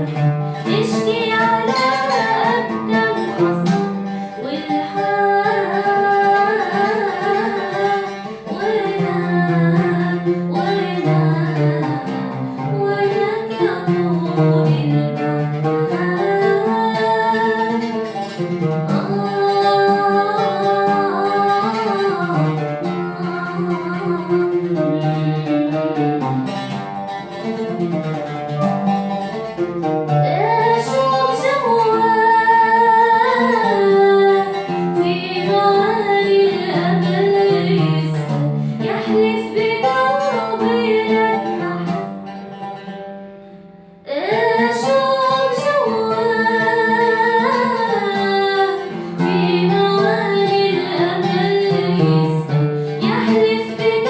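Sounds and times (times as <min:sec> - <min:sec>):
woman singing: 0:00.0 - 0:28.2, 0:29.1 - 0:42.7, 0:44.0 - 0:54.0
plucked guitar: 0:00.0 - 0:54.0.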